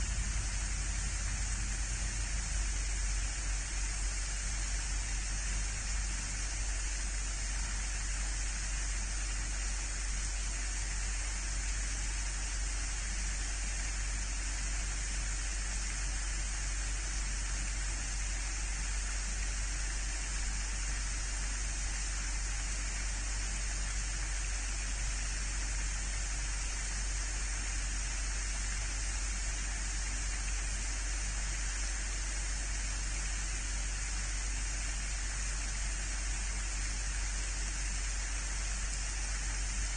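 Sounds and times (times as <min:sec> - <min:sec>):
constant low hum: 0:00.0 - 0:39.9
steady hiss: 0:00.0 - 0:39.9.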